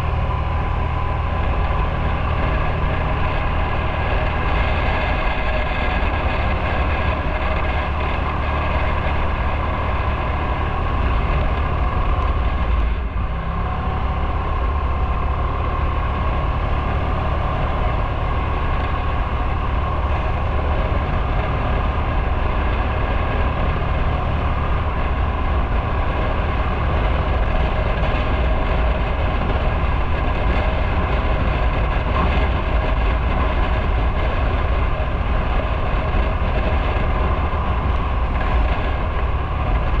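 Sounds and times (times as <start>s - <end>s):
motorcycle engine rumbling: 0.0s - 40.0s
wind rush: 0.0s - 40.0s.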